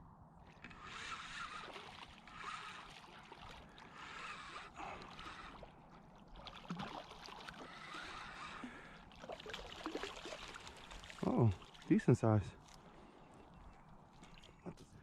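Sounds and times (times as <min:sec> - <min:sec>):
water splashing and trickling: 0:00.4 - 0:15.0.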